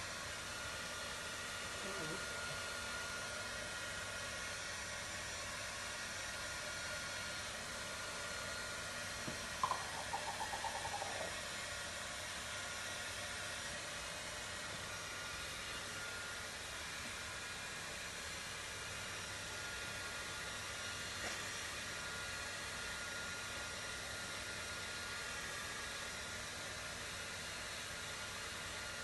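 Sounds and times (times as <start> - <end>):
hair dryer running: 0.0 - 29.0.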